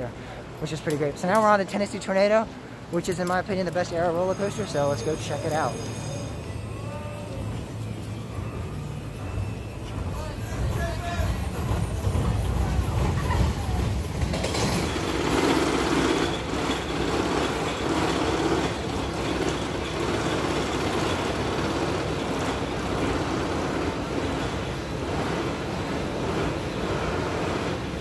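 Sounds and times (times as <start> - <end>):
roller coaster train rolling: 3.0 - 28.0.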